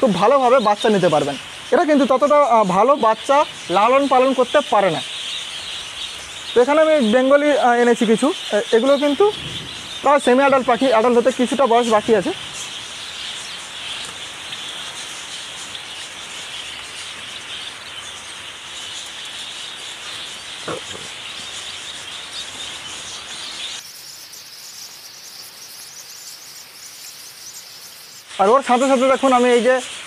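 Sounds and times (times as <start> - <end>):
finches chirping and twittering: 0.0 - 30.0.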